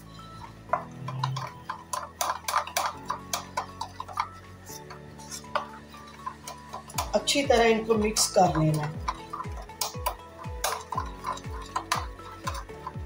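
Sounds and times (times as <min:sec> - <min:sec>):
soft background music chords: 0:00.0 - 0:13.0
spoon scraping a bowl: 0:00.1 - 0:13.0.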